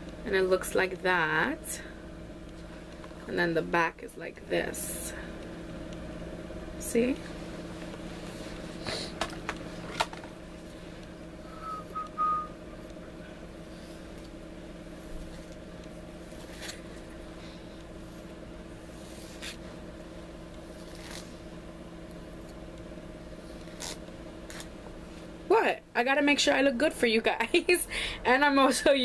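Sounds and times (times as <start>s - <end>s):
low hum of several tones: 0.0s - 29.0s.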